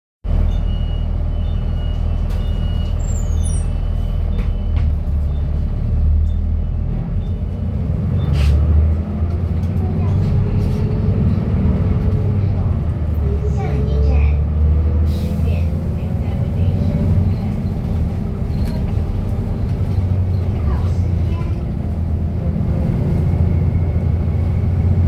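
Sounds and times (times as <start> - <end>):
bus diesel engine running: 0.2 - 25.0.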